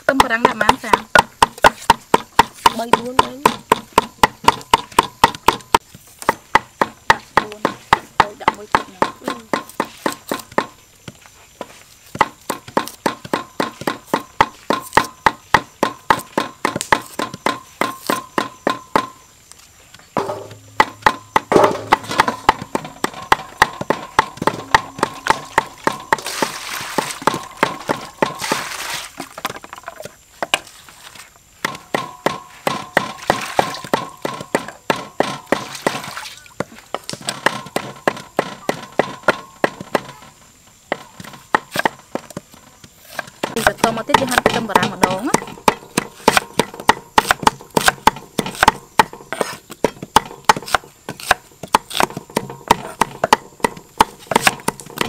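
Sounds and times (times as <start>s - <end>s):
cleaver chopping on wooden block: 0.1s - 10.8s, 12.1s - 19.2s, 20.2s - 29.6s, 31.6s - 40.3s, 40.9s - 55.0s.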